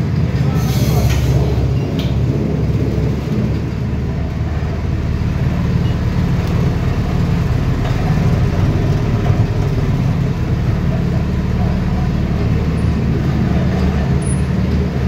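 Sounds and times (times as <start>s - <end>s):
small petrol engine running: 2.2s - 15.0s.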